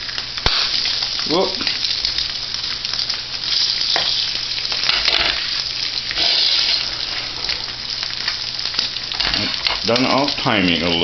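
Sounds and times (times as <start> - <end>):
eggs sizzling in a skillet: 0.0 - 11.0.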